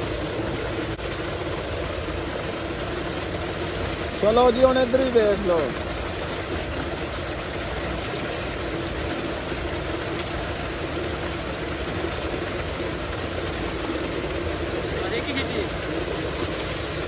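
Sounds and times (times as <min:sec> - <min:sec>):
pump low hum: 0:00.0 - 0:17.0
water gushing into tank: 0:00.0 - 0:17.0.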